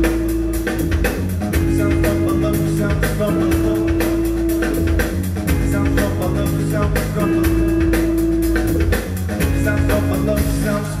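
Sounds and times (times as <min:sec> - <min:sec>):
bass and guitar: 0:00.0 - 0:11.0
drum kit beat: 0:00.0 - 0:11.0.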